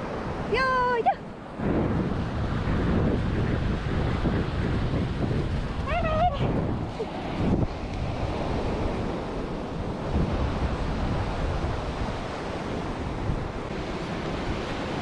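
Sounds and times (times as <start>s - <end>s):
surf washing: 0.0s - 15.0s
wind buffeting microphone: 0.0s - 15.0s.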